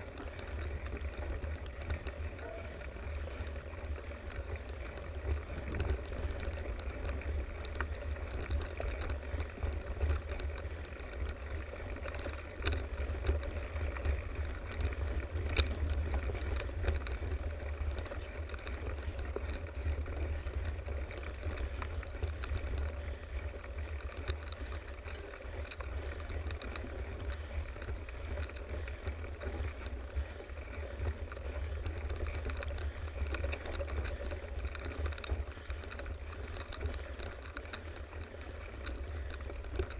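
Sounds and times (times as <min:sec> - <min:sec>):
bike tyres rumbling on dirt: 0:00.0 - 0:39.9.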